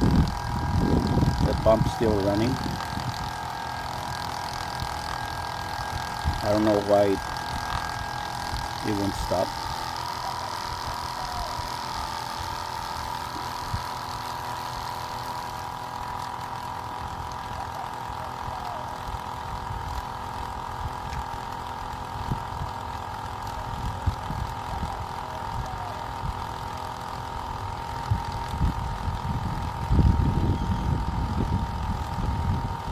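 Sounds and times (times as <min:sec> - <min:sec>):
water pump whining: 0:00.0 - 0:32.9.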